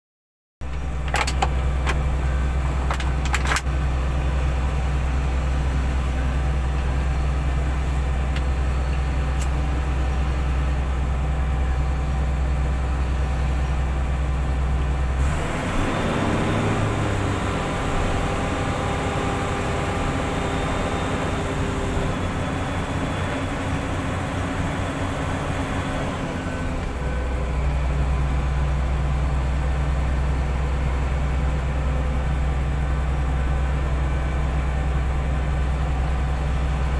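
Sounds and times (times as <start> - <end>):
diesel engine droning: 0.6 - 36.9.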